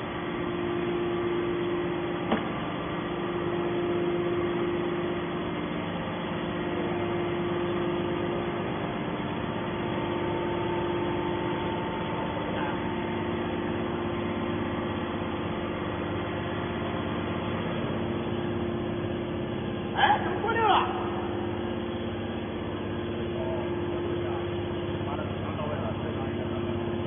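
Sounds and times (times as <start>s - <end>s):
hydraulic unit humming: 0.0s - 27.0s.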